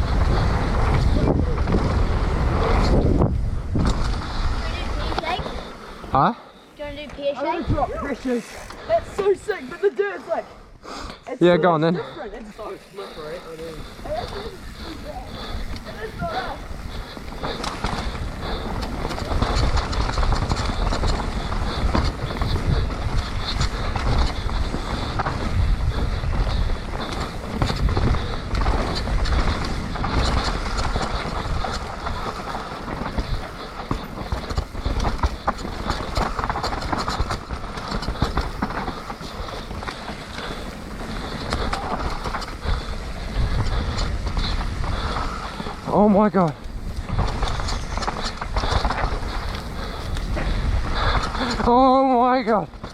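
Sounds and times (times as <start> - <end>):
wind buffeting microphone: 0.0 - 9.8, 12.0 - 52.9
tyres on wet dirt: 0.0 - 52.9
bike rattling clicks: 6.8 - 9.7, 12.3 - 52.9.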